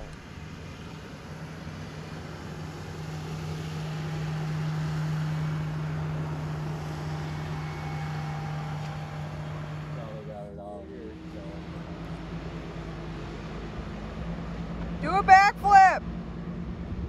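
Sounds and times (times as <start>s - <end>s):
outboard motor passing: 0.0s - 17.0s.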